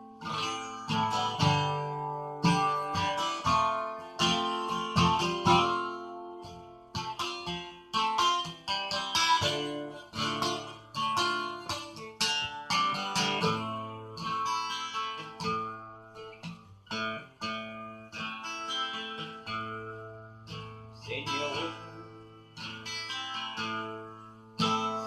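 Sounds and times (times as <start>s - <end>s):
acoustic guitar strummed chords: 0.0s - 25.0s.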